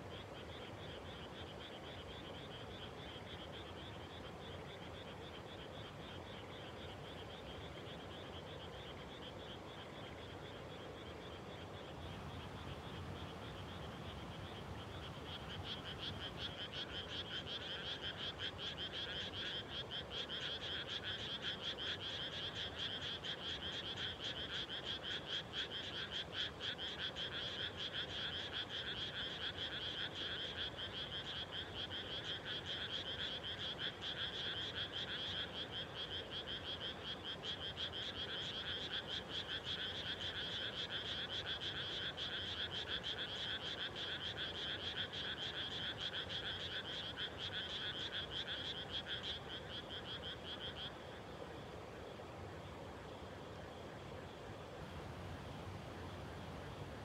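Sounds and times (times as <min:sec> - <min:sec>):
frogs croaking in chorus: 0:00.0 - 0:57.0.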